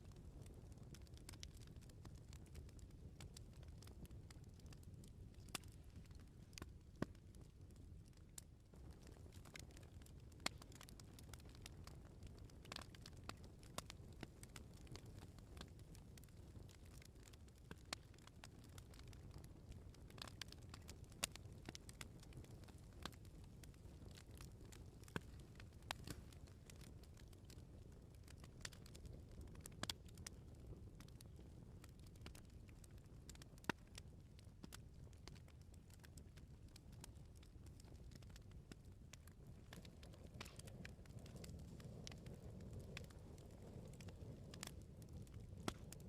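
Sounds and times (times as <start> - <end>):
bonfire crackling and popping: 0.0 - 46.0
low rumble of flames: 0.0 - 46.0.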